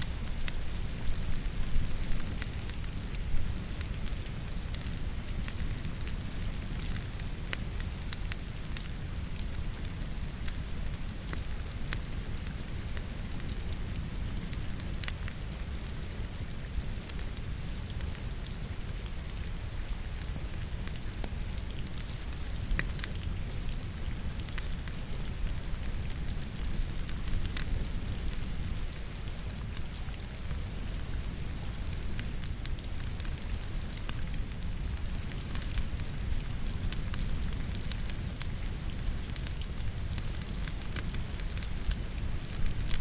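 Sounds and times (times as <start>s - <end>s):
steady rain: 0.0s - 43.0s
wood fire crackling and popping: 0.0s - 43.0s.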